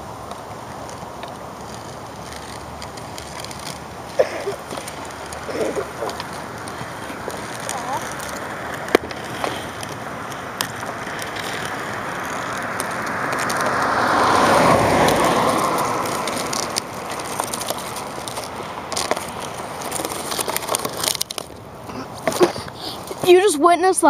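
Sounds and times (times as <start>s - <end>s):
passing vehicle road noise: 0.0s - 23.2s
hockey sticks tapping on asphalt: 0.2s - 23.6s.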